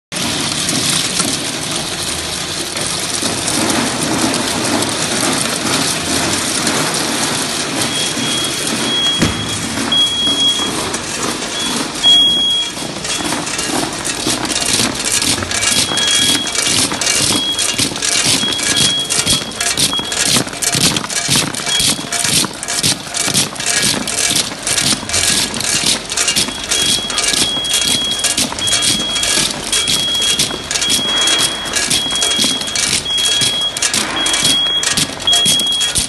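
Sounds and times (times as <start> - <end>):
bottle caps rattling through machine: 0.2 - 36.0
caps tumbling clicks: 0.6 - 36.0.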